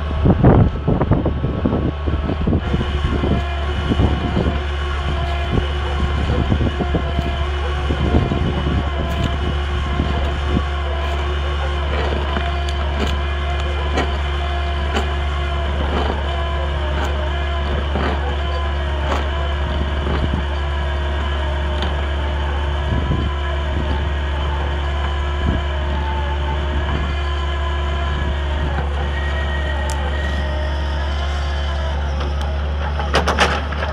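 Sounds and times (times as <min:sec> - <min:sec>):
diesel engine running under load: 0:00.0 - 0:33.9
cutter cracking through wood: 0:02.6 - 0:33.9.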